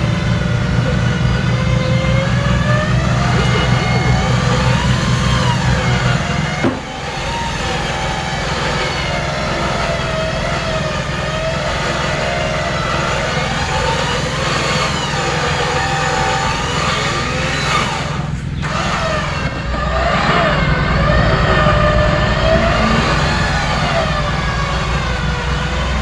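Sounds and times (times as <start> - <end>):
high whine: 0.0 - 26.0
off-road vehicle engine running: 0.0 - 26.0.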